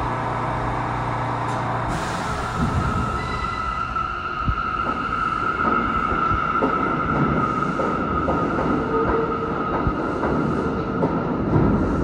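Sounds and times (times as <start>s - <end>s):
subway train running on track: 0.0s - 12.0s.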